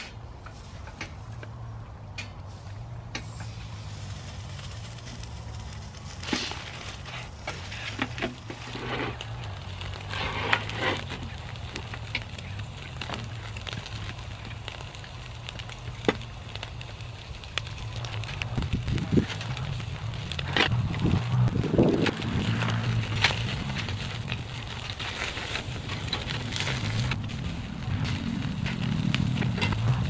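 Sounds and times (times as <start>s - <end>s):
charcoal crackling: 0.0s - 30.0s
steak sizzling on a grill: 3.2s - 30.0s.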